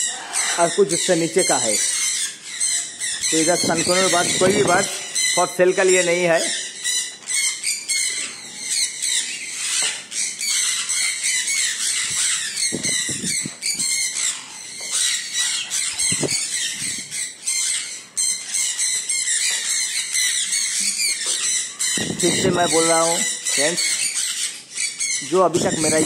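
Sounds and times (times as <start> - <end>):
parrots squawking and screeching: 0.0 - 26.0.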